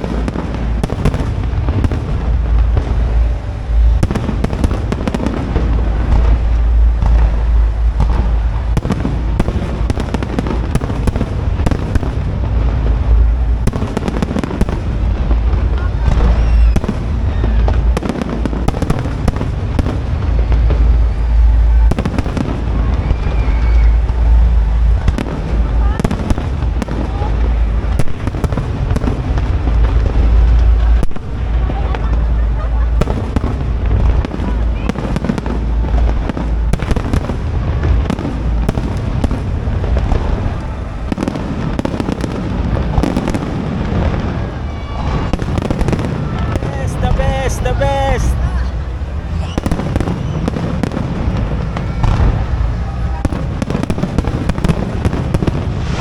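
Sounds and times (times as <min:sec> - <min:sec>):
fireworks cracking: 0:00.0 - 0:56.0
low rumble: 0:00.0 - 0:56.0.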